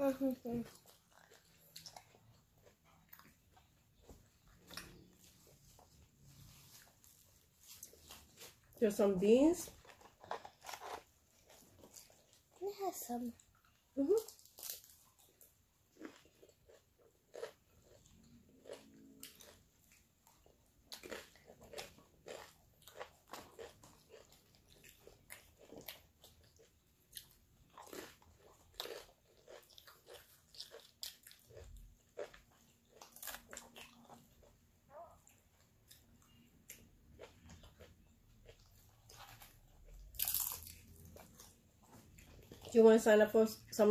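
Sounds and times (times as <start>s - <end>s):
chewing crunchy food: 0.4s - 8.8s, 9.6s - 43.1s.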